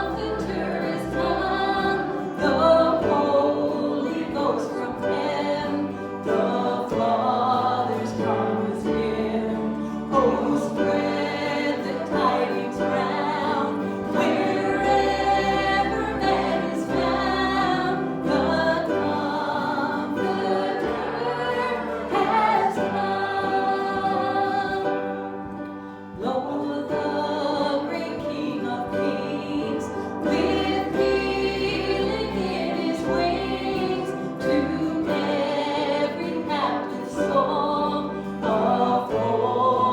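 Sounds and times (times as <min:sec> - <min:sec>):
group singing worship song: 0:00.0 - 0:39.9
instrumental accompaniment: 0:00.0 - 0:39.9.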